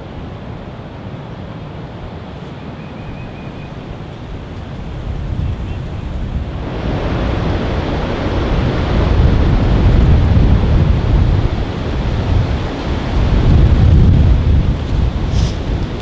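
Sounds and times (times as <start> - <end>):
gusting wind buffeting microphone: 3.2 - 16.0.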